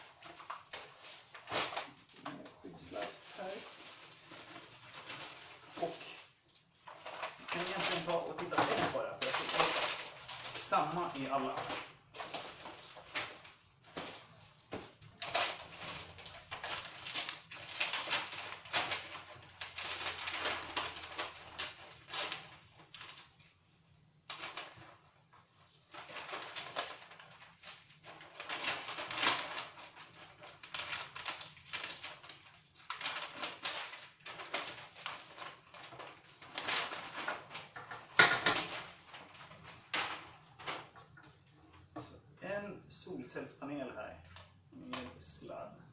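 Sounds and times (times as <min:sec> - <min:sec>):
plastic and cardboard crinkling: 0:00.0 - 0:42.2, 0:43.4 - 0:45.6.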